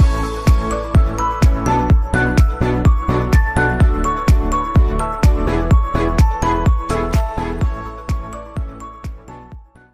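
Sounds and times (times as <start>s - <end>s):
kick drum beat: 0.0s - 9.7s.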